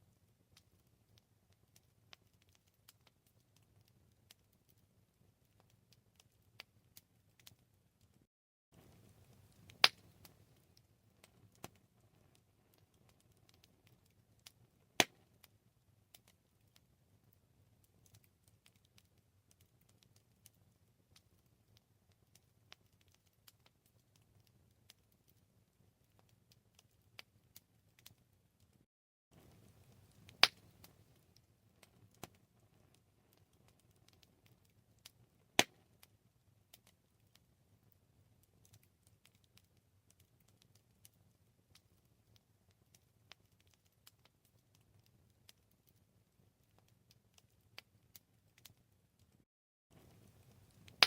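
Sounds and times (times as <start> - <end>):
campfire crackling: 0.0 - 51.0.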